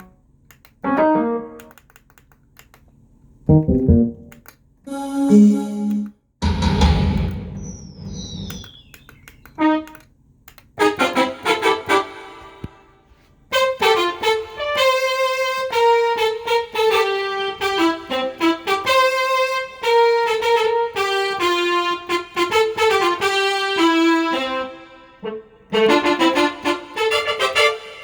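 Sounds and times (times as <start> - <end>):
synthesizer brass notes: 0.8 - 1.7, 3.5 - 10.0, 10.8 - 28.0.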